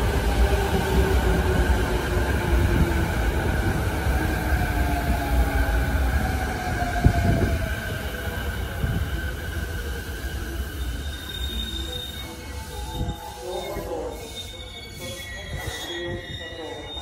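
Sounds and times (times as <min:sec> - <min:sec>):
electric train rumble and whine: 0:00.0 - 0:17.0.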